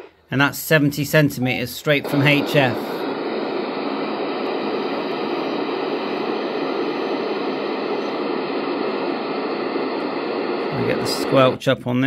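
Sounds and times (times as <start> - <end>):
radio receiver static hiss: 0.7 - 11.7.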